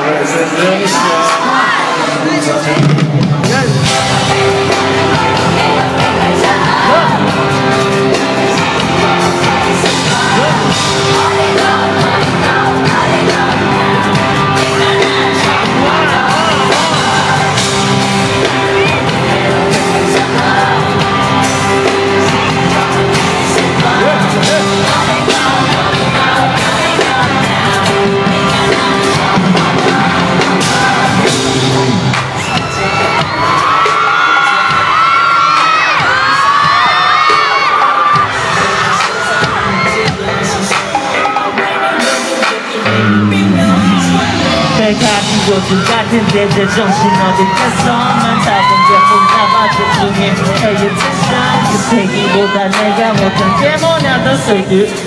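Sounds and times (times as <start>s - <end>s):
amplified pop music with singer: 0.0s - 55.0s
fans yelling: 0.0s - 55.0s.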